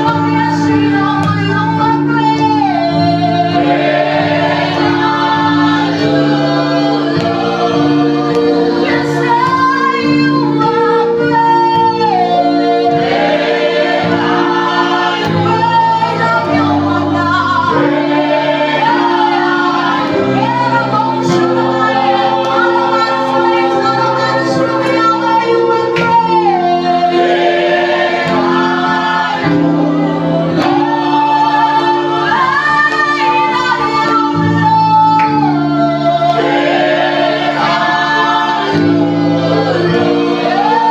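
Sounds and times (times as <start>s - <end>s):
choir singing gospel song: 0.0s - 40.9s
held instrumental chords: 0.0s - 40.9s.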